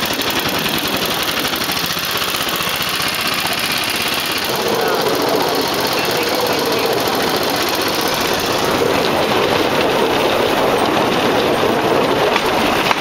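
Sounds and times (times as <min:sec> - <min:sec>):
platform rolling on rails: 0:00.0 - 0:13.0
small gasoline engine running: 0:00.0 - 0:13.0.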